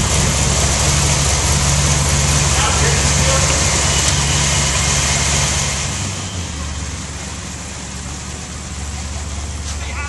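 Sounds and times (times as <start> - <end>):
buggy engine idling: 0.0 - 10.0.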